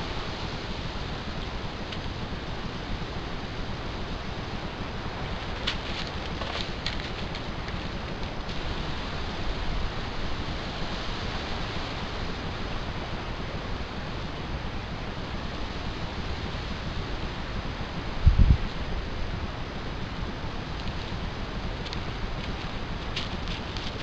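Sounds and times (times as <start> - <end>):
steady hiss of background noise: 0.0 - 24.0.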